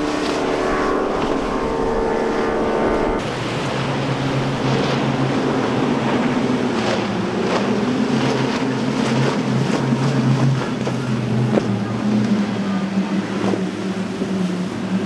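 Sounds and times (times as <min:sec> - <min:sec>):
motorboat engine running: 0:00.0 - 0:15.0
water and wind rushing: 0:00.0 - 0:15.0
water splashes: 0:00.0 - 0:15.0.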